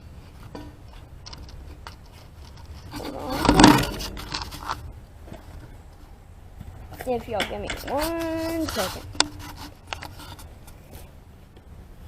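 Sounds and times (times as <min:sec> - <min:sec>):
handling scraping and rustling: 0:00.0 - 0:11.2.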